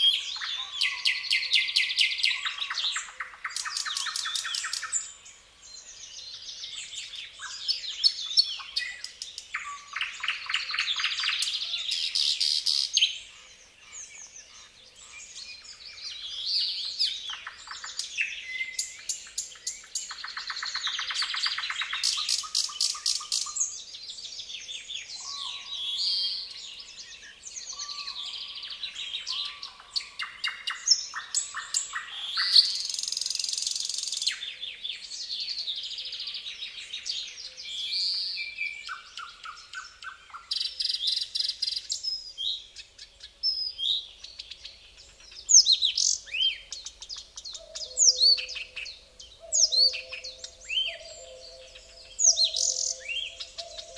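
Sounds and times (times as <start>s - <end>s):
songbirds singing: 0.0s - 53.9s.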